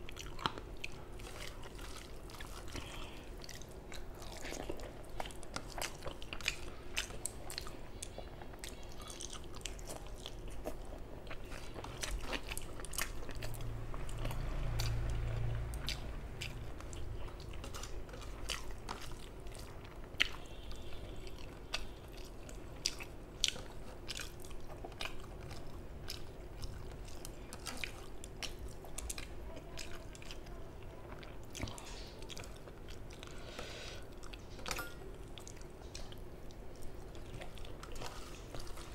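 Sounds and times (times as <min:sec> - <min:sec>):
wet chewing and mouth clicks: 0:00.0 - 0:33.4, 0:34.1 - 0:38.9.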